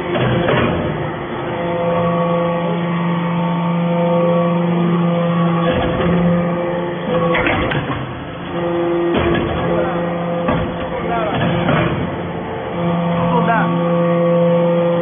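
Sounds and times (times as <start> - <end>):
hydraulic baler motor humming: 0.0 - 15.0.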